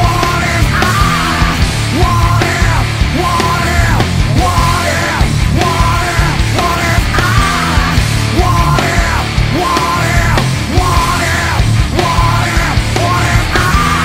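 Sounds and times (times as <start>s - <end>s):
loud hard rock music: 0.0s - 14.0s.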